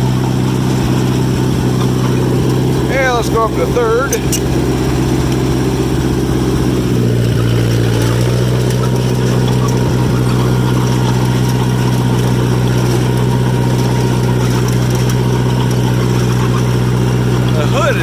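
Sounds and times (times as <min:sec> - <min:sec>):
dozer engine running: 0:00.0 - 0:18.0.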